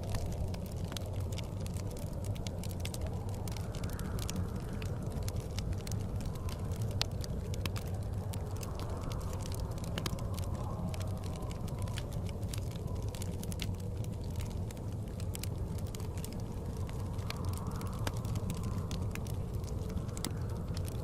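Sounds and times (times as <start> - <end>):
blizzard wind rumble: 0.0 - 21.0
wood fire crackling and popping: 0.0 - 21.0.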